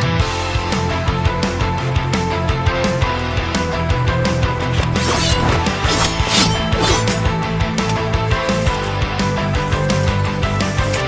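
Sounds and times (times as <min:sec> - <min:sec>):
music with driving drum beat: 0:00.0 - 0:11.0.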